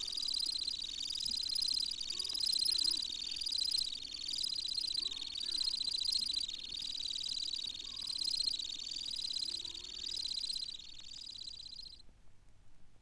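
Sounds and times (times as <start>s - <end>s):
bird singing high trill: 0.0s - 12.0s.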